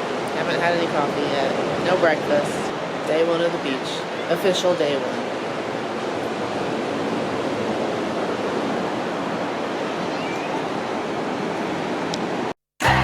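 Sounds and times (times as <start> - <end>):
wind blowing across microphone: 0.0 - 12.5
ocean surf: 0.0 - 13.0.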